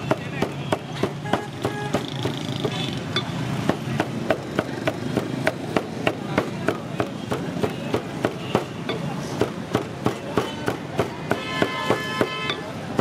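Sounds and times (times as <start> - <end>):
cleaver chopping on wooden block: 0.0 - 2.8, 3.6 - 13.0.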